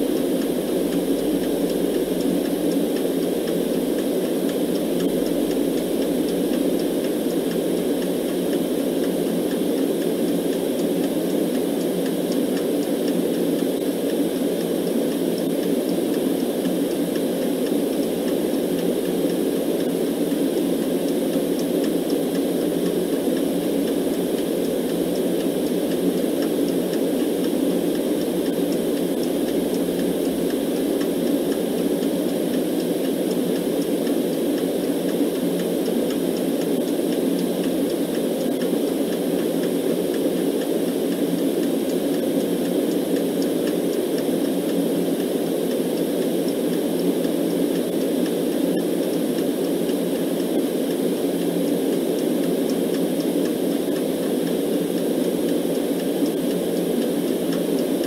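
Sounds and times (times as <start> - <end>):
clock ticking faintly: 0.0 - 58.0
low rushing white noise: 0.0 - 58.0.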